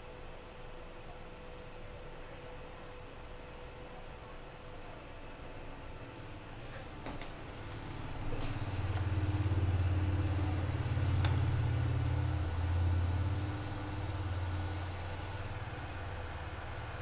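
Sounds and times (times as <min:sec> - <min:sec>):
cooling fans humming: 0:00.0 - 0:17.0.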